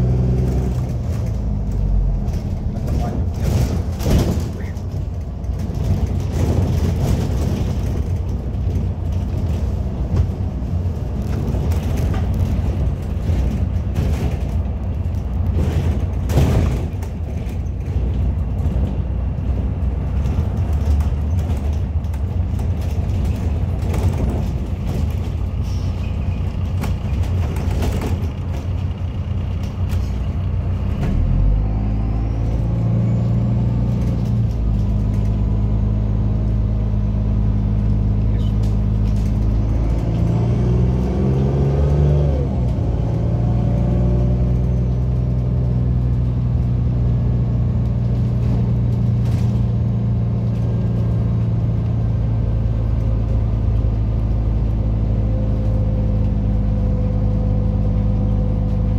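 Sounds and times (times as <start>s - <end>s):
bus engine from inside cabin: 0.0s - 58.9s.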